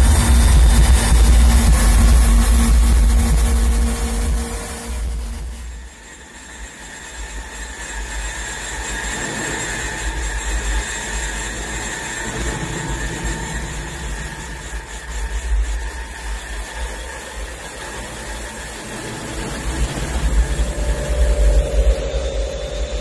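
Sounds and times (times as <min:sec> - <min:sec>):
low rough electronic drone: 0:00.0 - 0:23.0.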